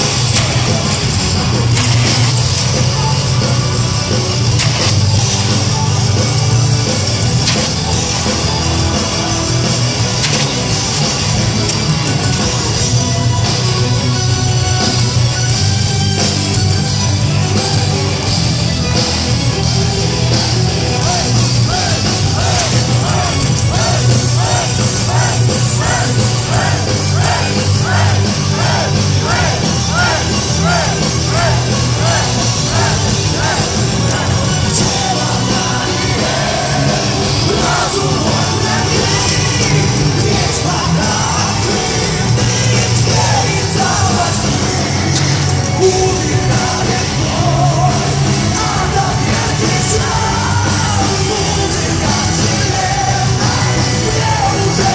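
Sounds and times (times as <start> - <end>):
heavy metal band playing: 0.0 - 54.9
lead guitar line: 0.0 - 54.9.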